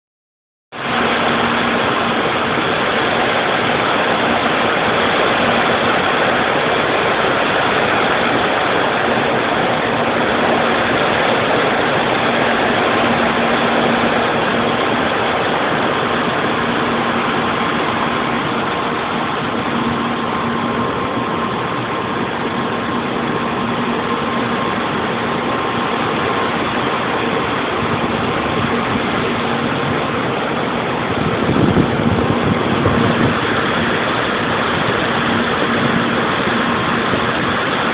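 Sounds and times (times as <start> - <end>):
wind and heavy rain rushing: 0.7 - 37.9.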